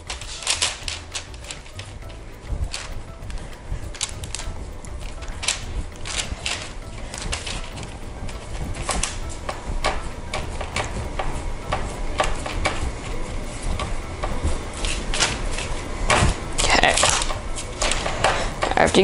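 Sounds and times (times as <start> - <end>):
hands patting dough: 0.0 - 19.0
parchment paper crinkling: 0.0 - 19.0.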